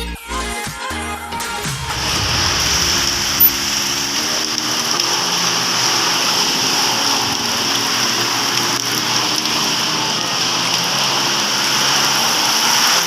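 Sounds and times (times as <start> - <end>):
background music melody: 0.0 - 13.0.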